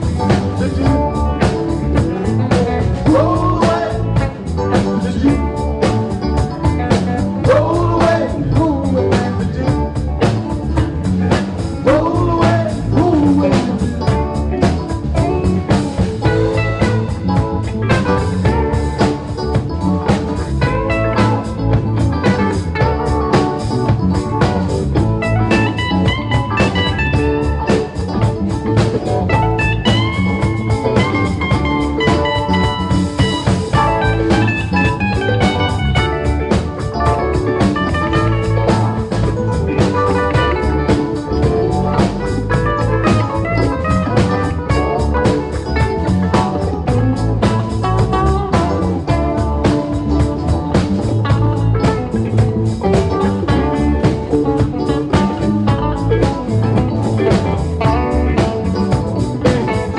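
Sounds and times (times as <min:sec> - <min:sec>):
bass: 0:00.0 - 0:59.9
drum kit beat: 0:00.0 - 0:59.9
electric guitars: 0:00.0 - 0:59.9
keyboard: 0:00.0 - 0:59.9.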